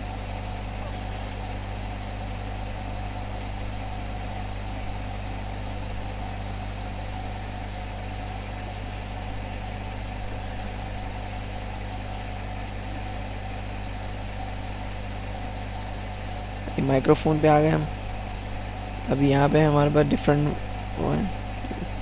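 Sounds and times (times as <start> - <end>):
electrical hum and hiss: 0.0 - 22.0
thin whine tones: 0.0 - 22.0.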